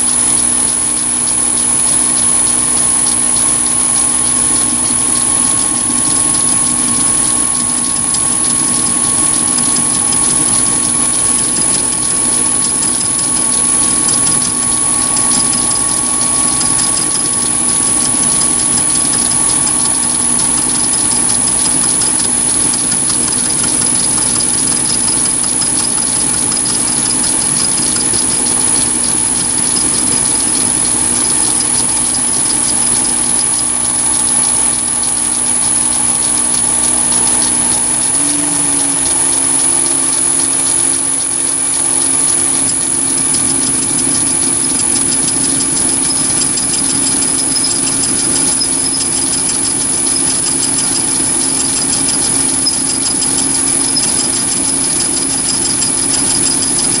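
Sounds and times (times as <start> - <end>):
lathe motor hum with whine: 0.0 - 57.0.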